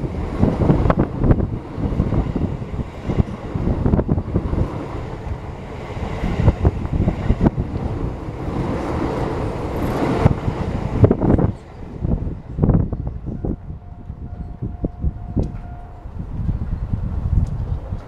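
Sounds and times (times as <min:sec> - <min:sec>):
train wheels rumbling on rail: 0:00.0 - 0:18.0
wind buffeting microphone: 0:00.0 - 0:18.0.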